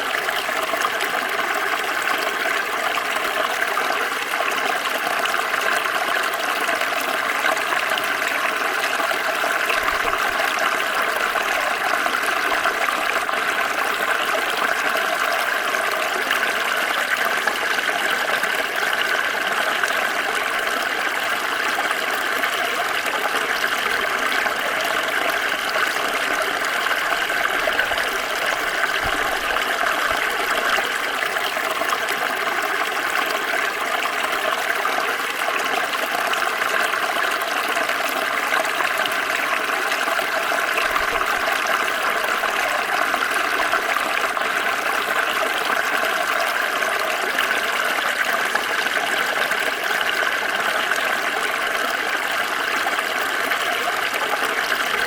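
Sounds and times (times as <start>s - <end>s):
small stream flowing: 0.0s - 55.0s.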